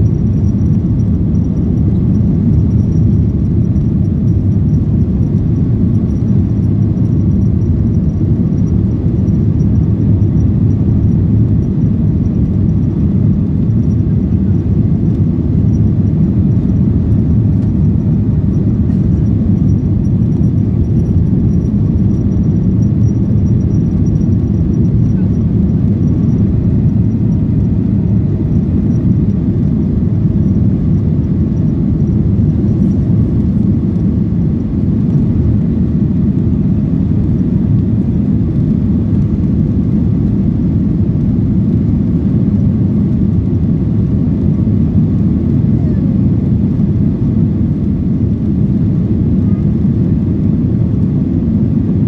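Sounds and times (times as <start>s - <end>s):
airplane cabin engine rumble: 0.0s - 52.0s.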